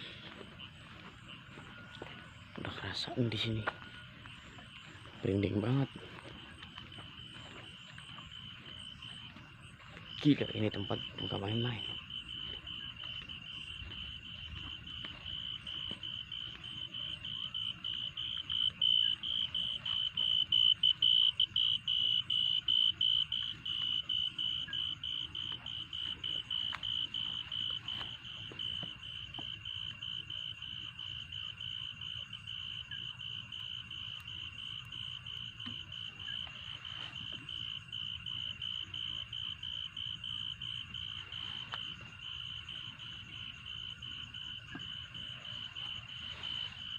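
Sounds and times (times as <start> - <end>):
cricket chirping: 0.0 - 46.9.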